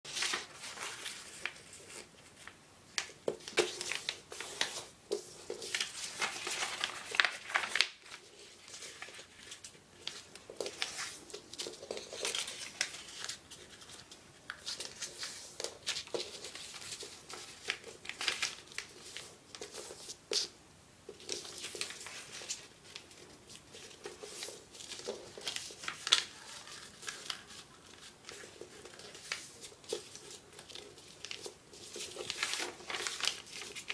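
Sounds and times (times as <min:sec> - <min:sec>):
paper being folded and creased: 0:00.1 - 0:20.5, 0:21.2 - 0:33.9.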